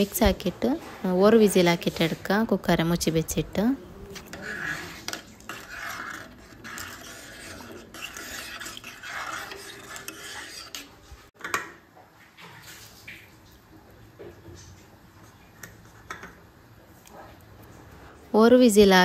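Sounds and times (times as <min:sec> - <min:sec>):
spoon stirring rice in water: 0:01.5 - 0:17.7.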